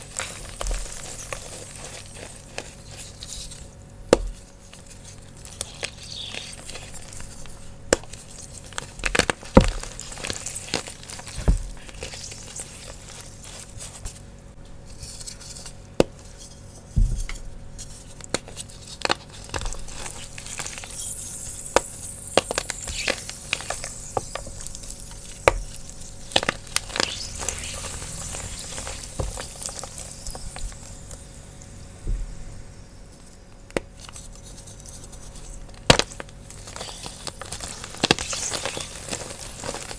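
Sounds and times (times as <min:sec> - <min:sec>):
chalk crunching and cracking: 0:00.0 - 0:14.3, 0:14.9 - 0:31.2, 0:33.7 - 0:39.9.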